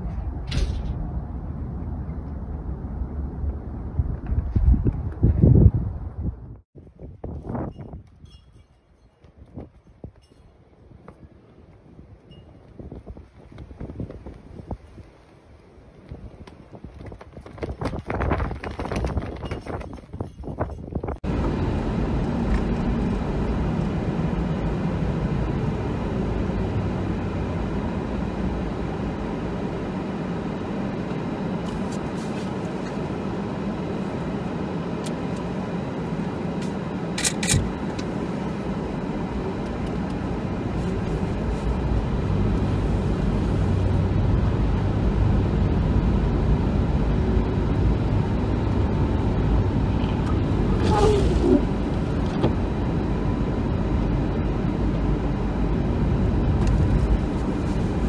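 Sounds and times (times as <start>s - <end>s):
car engine and tyres rumbling: 0.0s - 6.6s, 9.6s - 58.0s.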